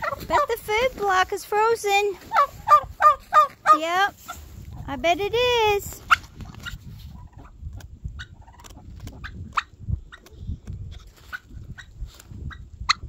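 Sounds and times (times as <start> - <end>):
turkeys pecking frozen food: 0.0 - 4.4, 6.0 - 13.0.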